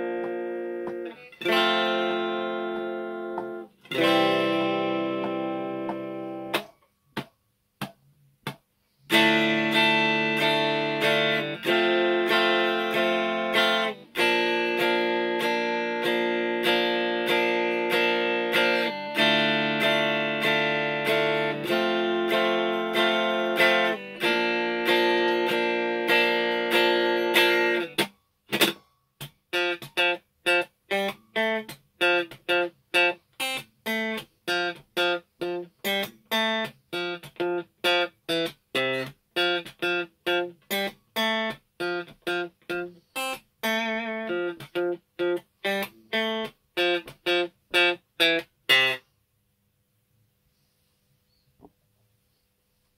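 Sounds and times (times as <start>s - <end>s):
electric guitar strumming chords: 0.0s - 6.7s, 9.1s - 49.0s
muted guitar chord stabs: 0.0s - 49.0s.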